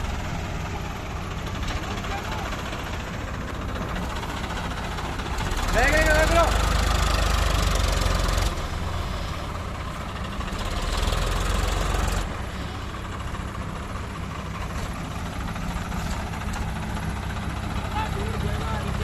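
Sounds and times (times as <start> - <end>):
tractor diesel engines rumbling: 0.0 - 19.0.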